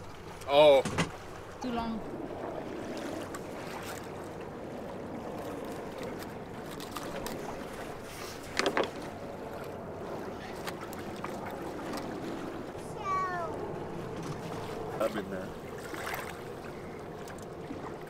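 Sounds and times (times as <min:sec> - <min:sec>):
water noise around boat: 0:00.0 - 0:18.0
wind: 0:00.0 - 0:18.0.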